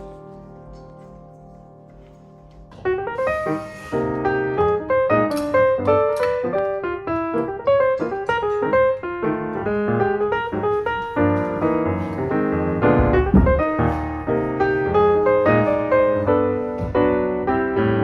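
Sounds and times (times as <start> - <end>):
piano melody with chords: 0.0 - 18.0.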